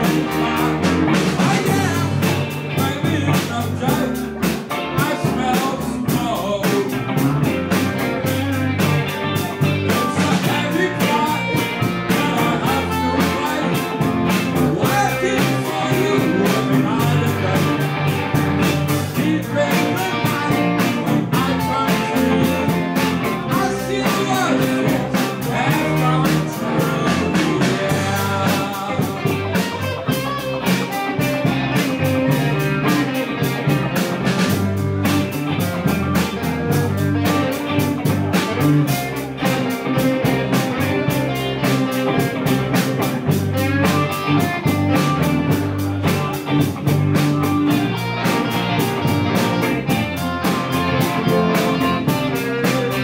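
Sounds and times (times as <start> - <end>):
drum kit beat: 0.0 - 53.0
electric guitars: 0.0 - 53.0
live blues band: 0.0 - 53.0.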